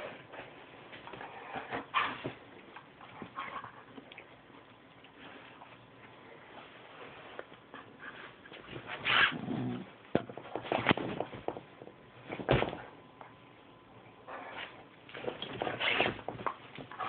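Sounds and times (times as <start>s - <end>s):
dogs play-fighting noises: 0.0s - 13.0s, 14.2s - 17.0s.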